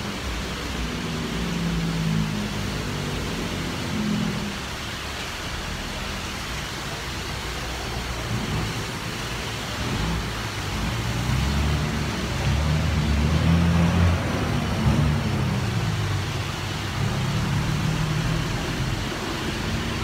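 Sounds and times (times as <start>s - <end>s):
heavy rain hissing on street: 0.0s - 20.0s
truck engine: 0.0s - 20.0s
vehicles driving through water: 0.0s - 20.0s.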